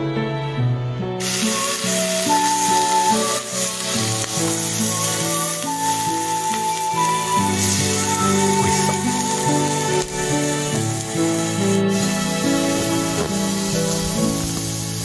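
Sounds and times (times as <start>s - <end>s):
oysters sizzling on hot plate: 1.2s - 15.0s.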